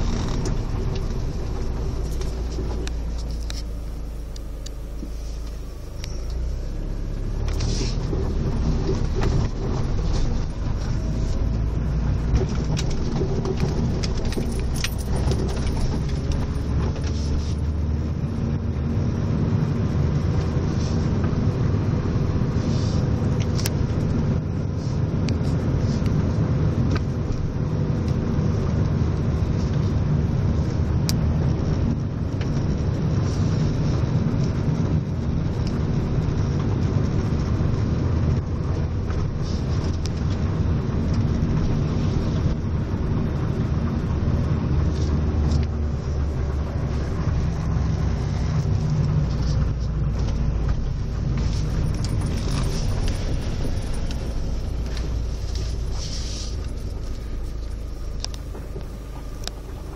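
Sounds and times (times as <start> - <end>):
car driving slowly: 0.0 - 59.9.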